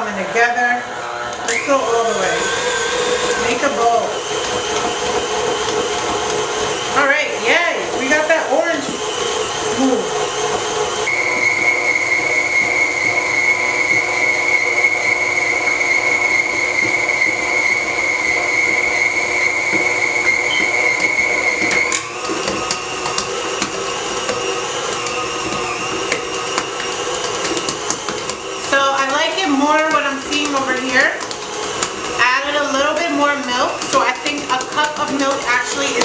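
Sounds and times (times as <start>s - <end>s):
stand mixer motor whine: 0.0s - 36.0s.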